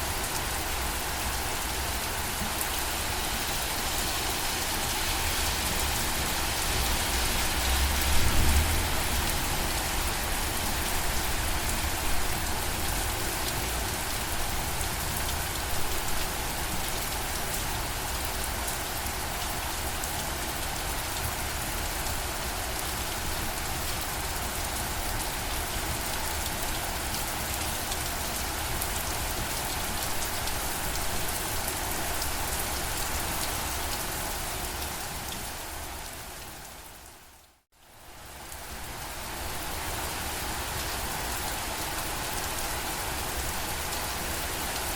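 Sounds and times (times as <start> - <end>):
rain hissing on surfaces: 0.0 - 44.9.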